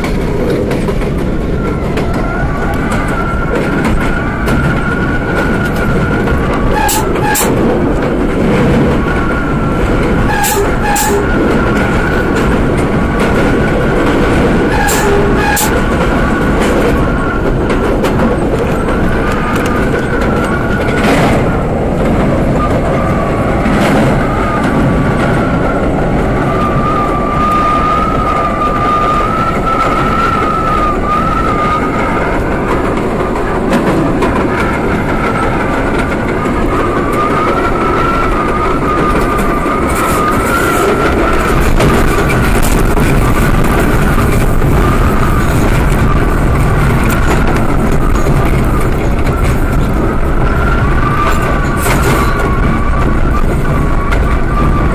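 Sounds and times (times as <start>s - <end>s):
rail clacks: 0.0s - 54.9s
subway car rumbling: 0.0s - 54.9s.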